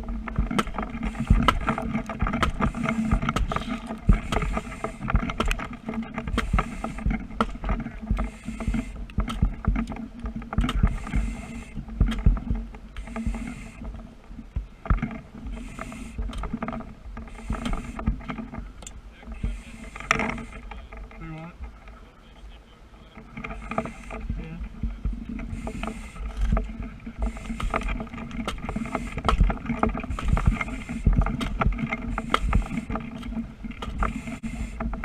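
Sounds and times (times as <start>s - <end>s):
engine hum: 0.0s - 35.0s
knocks and crackles: 0.0s - 35.0s.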